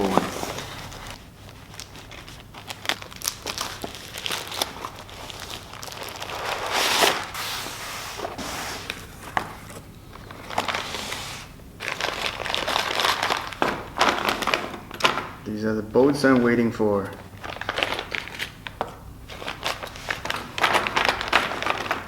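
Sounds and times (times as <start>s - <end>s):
packaging crinkling: 0.0s - 15.2s, 17.3s - 22.0s.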